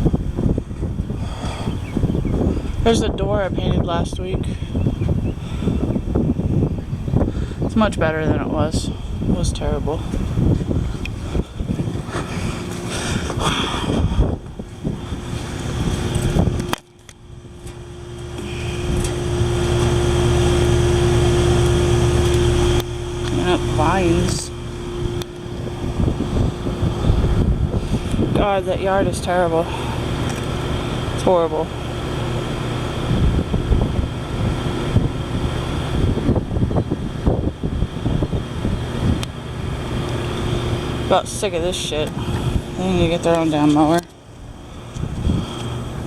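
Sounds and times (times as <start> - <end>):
moving car rumble: 0.0 - 46.0
vehicle running hum: 0.0 - 46.0
wind buffeting microphone: 0.0 - 46.0.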